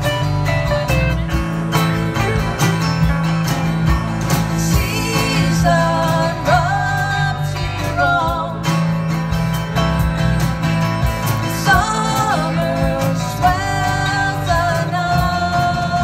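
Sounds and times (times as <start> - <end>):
drum kit beat: 0.0 - 16.0
electric bass: 0.0 - 16.0
electric guitar: 0.0 - 16.0
strummed acoustic guitar: 0.0 - 16.0.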